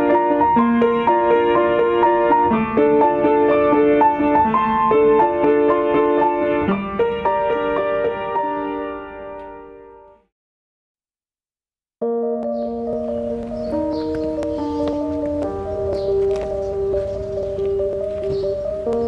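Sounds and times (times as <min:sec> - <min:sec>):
background piano music: 0:00.0 - 0:10.3, 0:12.0 - 0:19.0.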